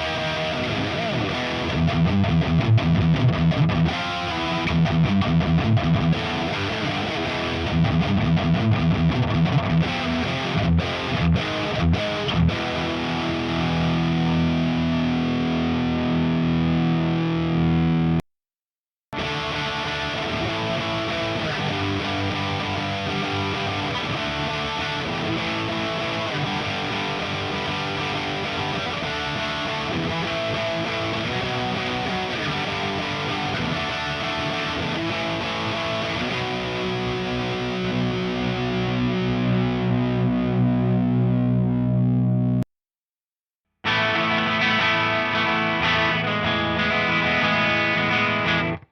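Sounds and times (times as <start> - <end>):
distorted electric guitar: 0.0 - 18.2, 19.1 - 42.7, 43.8 - 48.9.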